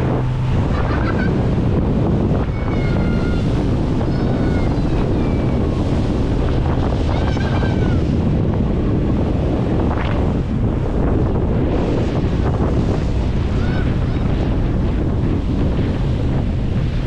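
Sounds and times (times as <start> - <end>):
boat engine running: 0.0 - 17.0
rushing water: 0.0 - 17.0
wind buffeting microphone: 0.0 - 17.0.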